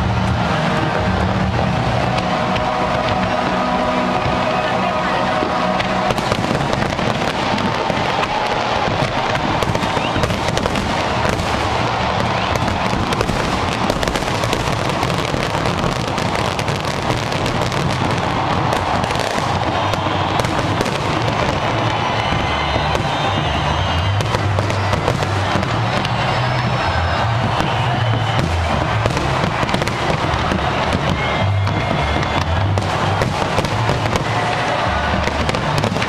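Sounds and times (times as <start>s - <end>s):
fireworks bursting and crackling: 0.0s - 36.0s.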